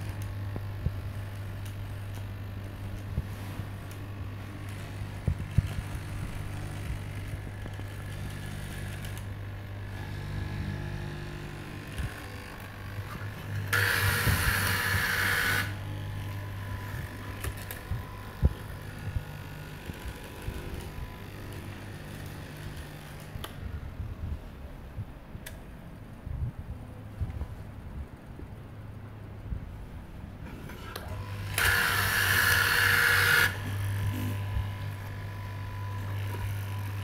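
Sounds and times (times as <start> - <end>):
cloth cutting machine humming: 0.0 - 24.1, 30.4 - 37.0.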